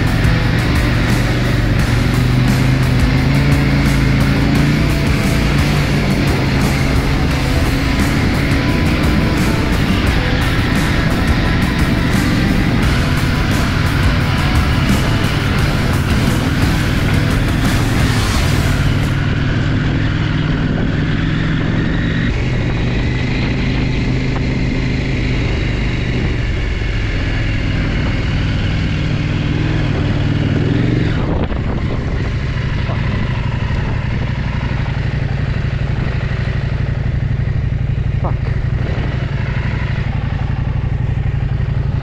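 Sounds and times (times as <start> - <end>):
motorcycle engine at low revs: 0.0 - 42.0.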